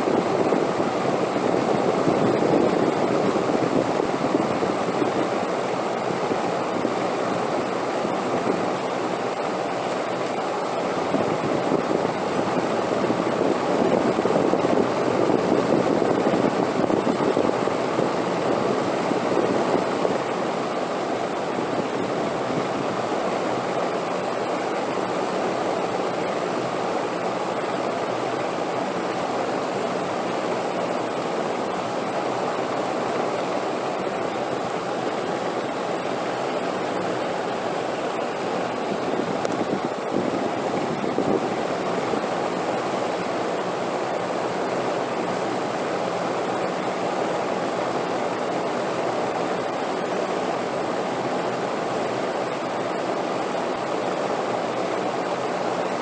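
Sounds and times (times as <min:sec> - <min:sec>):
rushing wind: 0:00.0 - 0:56.0.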